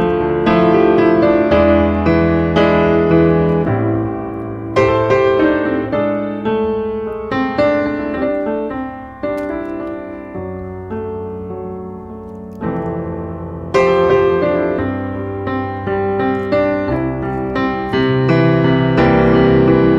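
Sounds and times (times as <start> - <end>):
piano notes and chords: 0.0 - 19.9.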